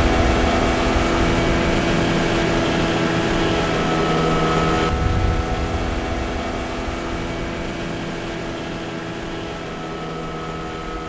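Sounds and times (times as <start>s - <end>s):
outboard motor drone: 0.0s - 11.0s
water rushing: 0.0s - 11.0s
wind: 0.0s - 11.0s.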